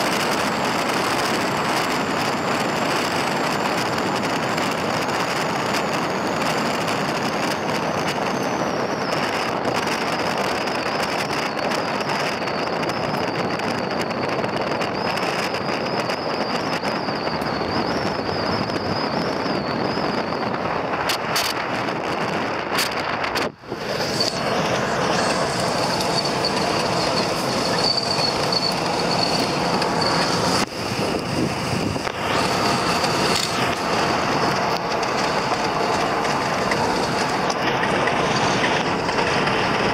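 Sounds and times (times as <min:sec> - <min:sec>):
car road noise: 0:00.0 - 0:39.9.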